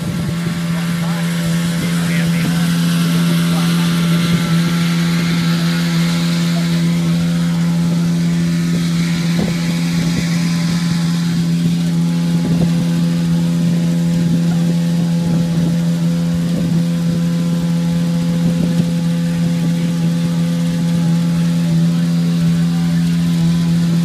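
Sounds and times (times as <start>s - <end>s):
small engine running steadily: 0.0s - 24.0s.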